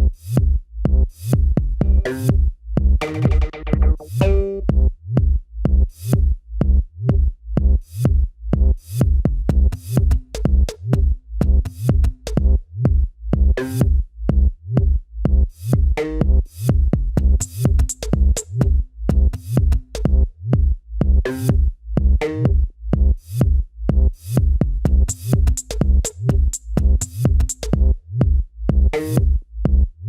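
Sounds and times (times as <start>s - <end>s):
electronic music with drum-machine beat: 0.0s - 6.3s, 7.0s - 14.0s, 14.7s - 30.0s.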